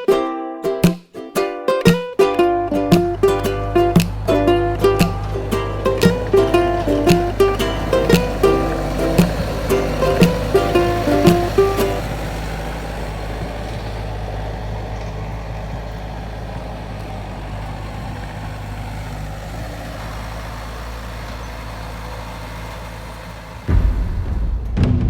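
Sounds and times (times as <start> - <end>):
skid steer engine running: 2.3 - 25.0.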